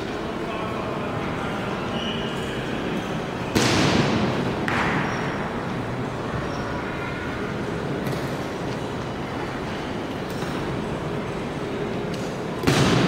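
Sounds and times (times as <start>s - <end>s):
crowd murmur: 0.0s - 13.0s.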